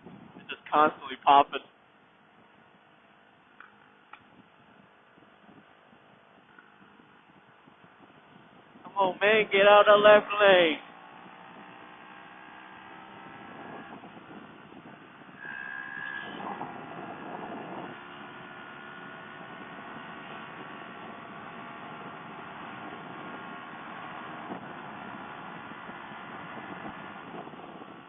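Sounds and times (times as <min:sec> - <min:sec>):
wind noise: 0:00.0 - 0:01.0, 0:02.2 - 0:12.0, 0:12.8 - 0:28.0
motorcycle engine running: 0:03.4 - 0:28.0.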